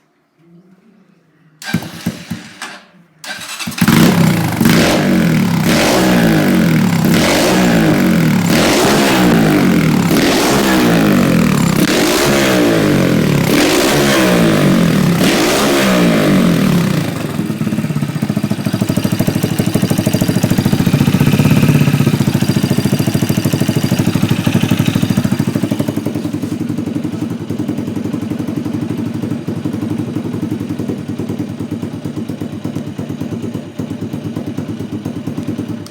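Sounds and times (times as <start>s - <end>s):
motorcycle engine idling: 1.6s - 35.9s
motorcycle engine revving: 1.6s - 35.9s.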